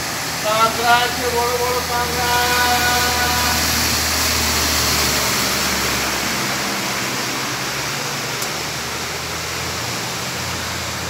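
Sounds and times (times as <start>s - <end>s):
floodwater rushing over street: 0.0s - 11.0s
low vehicle hum: 0.0s - 11.0s.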